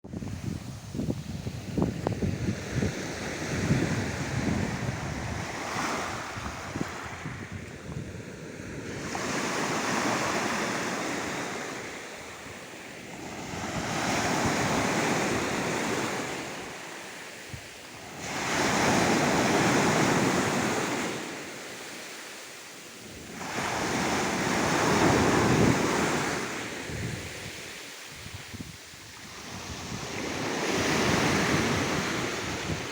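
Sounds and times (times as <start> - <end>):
wind: 0.0 - 32.9
waves rolling in: 0.1 - 32.9.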